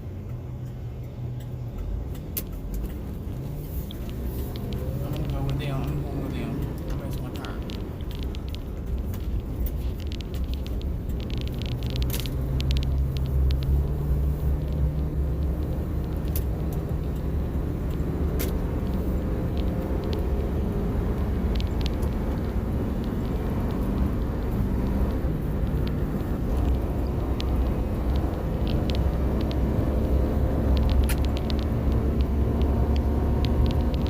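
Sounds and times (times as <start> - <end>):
truck engine and road rumble: 0.0 - 34.0.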